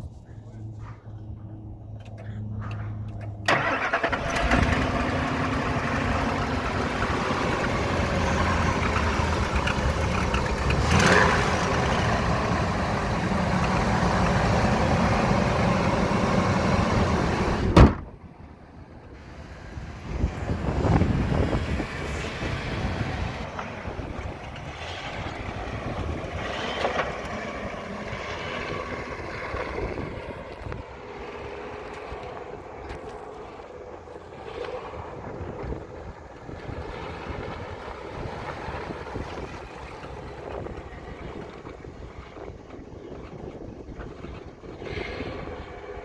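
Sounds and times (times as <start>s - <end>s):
truck engine starting and running: 0.0s - 46.0s.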